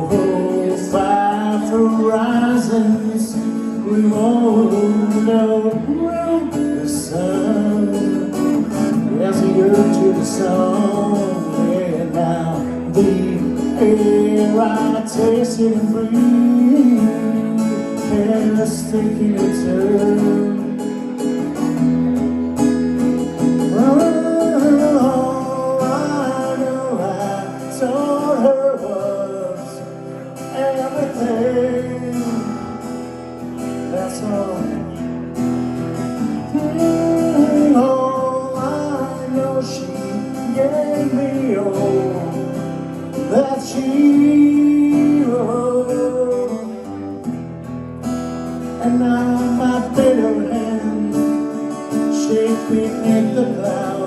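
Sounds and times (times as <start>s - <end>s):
acoustic guitars playing ballad: 0.0s - 54.0s.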